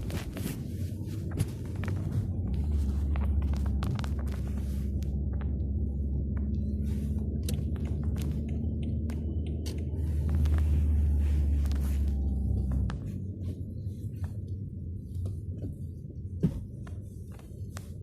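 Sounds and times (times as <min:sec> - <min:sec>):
car engine drone from inside: 0:00.0 - 0:18.0.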